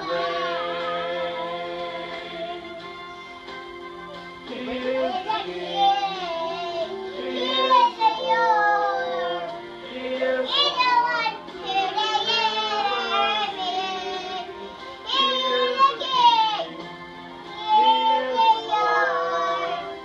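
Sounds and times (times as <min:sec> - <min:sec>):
adults and children singing: 0:00.0 - 0:03.0, 0:04.5 - 0:16.8, 0:17.5 - 0:20.0.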